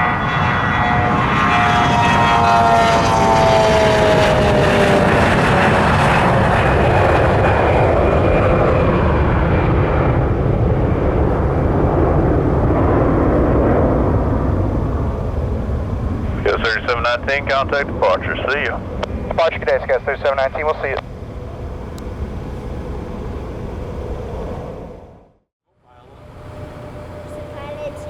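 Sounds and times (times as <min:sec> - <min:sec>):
jet engines roaring at takeoff: 0:00.0 - 0:28.0
jet fan whine: 0:00.0 - 0:28.0.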